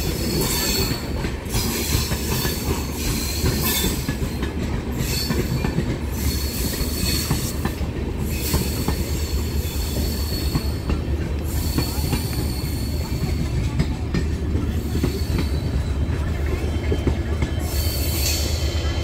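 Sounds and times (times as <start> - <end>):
wheels clicking over rail joints: 0.0 - 17.8
train coaches rumbling past: 0.0 - 19.0.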